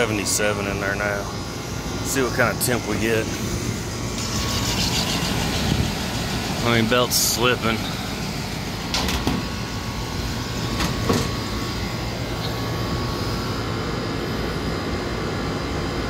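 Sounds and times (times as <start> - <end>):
rooftop unit mechanical hum: 0.0 - 16.0.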